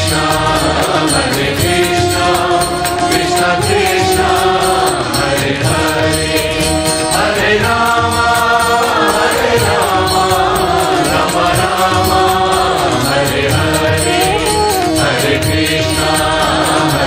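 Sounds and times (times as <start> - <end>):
devotional chant singing: 0.0 - 17.0
steady percussion beat: 0.0 - 17.0.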